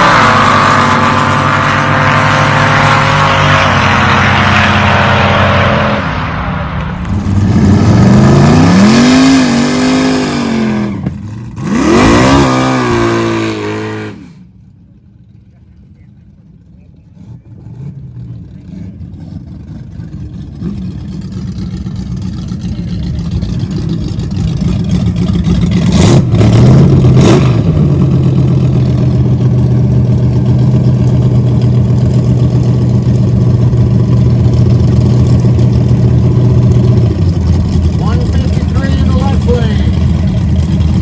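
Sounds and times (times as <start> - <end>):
car engine running hard: 0.0 - 41.0.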